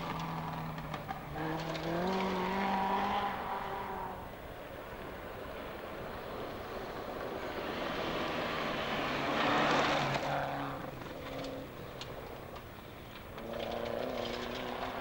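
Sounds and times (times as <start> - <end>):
rally car passing on gravel: 0.0 - 15.0.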